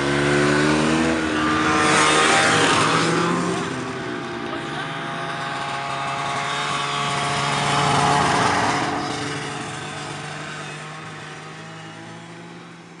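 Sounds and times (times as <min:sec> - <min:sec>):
snowmobile engine passing: 0:00.0 - 0:13.0.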